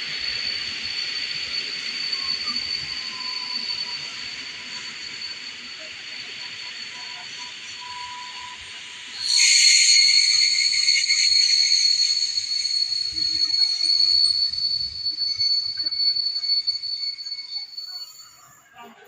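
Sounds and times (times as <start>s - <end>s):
hiss: 0.0s - 19.0s
train high-pitched squeal: 0.0s - 19.0s.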